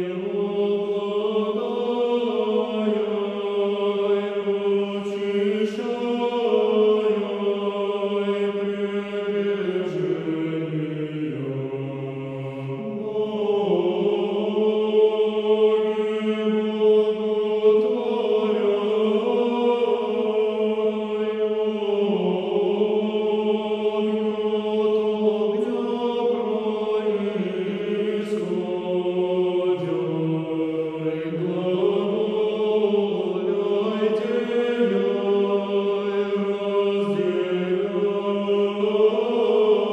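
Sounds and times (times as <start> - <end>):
choir chanting: 0.0 - 39.9.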